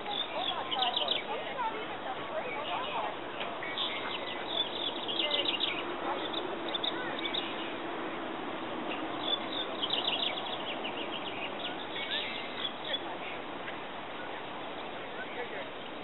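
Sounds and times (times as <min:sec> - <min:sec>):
birds twittering: 0:00.0 - 0:16.0
steady background hiss: 0:00.0 - 0:16.0.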